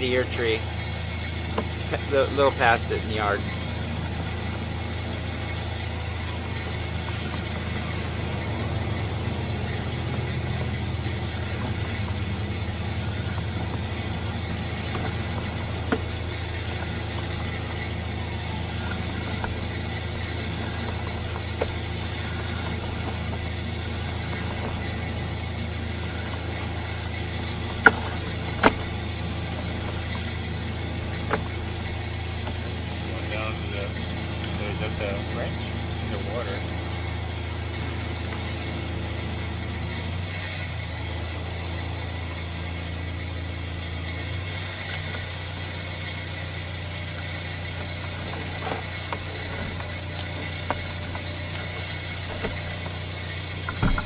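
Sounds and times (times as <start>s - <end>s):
engine idling hum: 0.0s - 54.0s.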